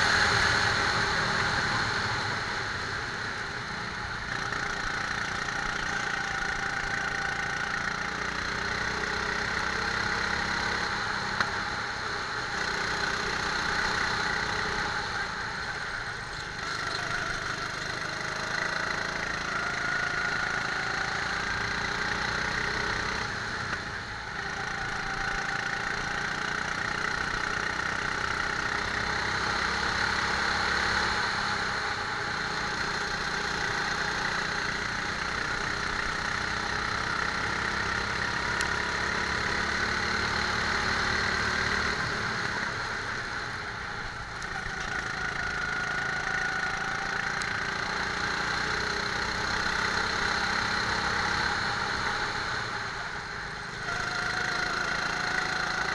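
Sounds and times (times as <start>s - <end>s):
go-kart engine running: 0.0s - 55.9s.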